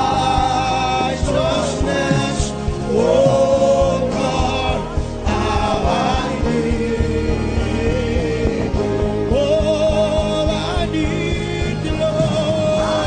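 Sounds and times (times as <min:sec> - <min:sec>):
gospel worship music: 0:00.0 - 0:13.0.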